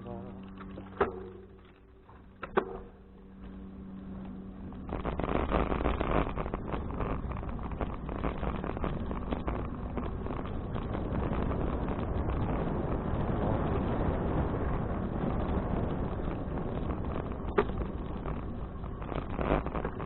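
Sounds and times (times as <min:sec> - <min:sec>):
low hum: 0:00.0 - 0:20.0
wind rush and riding noise: 0:00.0 - 0:20.0.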